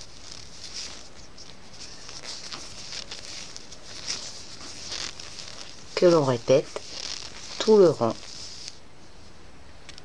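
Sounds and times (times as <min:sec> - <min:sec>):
yarn rustling: 0:00.0 - 0:09.3.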